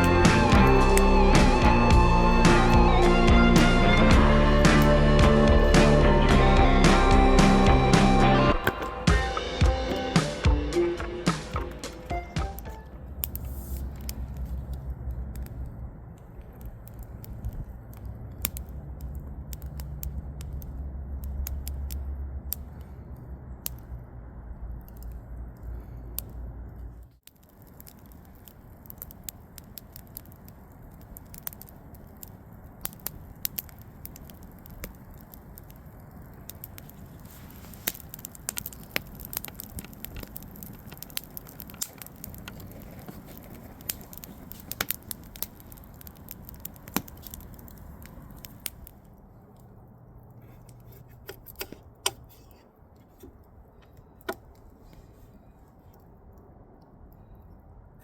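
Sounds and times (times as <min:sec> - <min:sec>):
low hiss of fire: 0:00.0 - 0:10.5, 0:11.3 - 0:58.0
campfire crackling and popping: 0:00.0 - 0:58.0.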